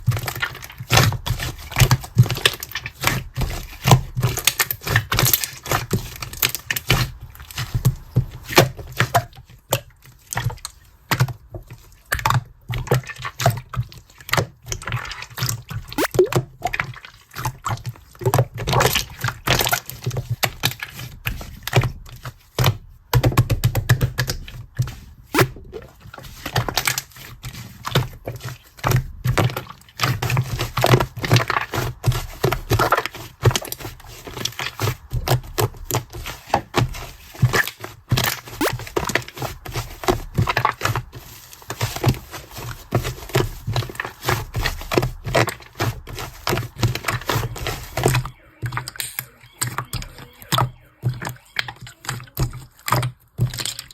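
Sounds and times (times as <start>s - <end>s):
slime squishing with sticky pops: 0.0s - 53.9s.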